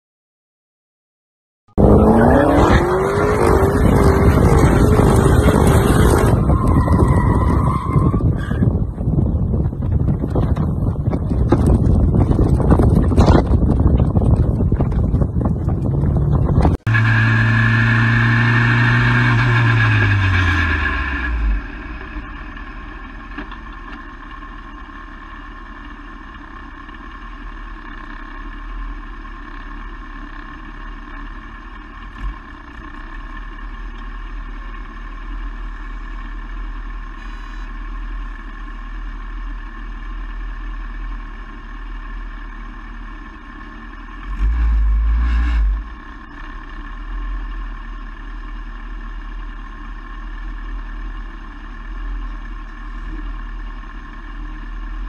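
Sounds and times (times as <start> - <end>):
race car engine rumbling: 1.7 - 55.0.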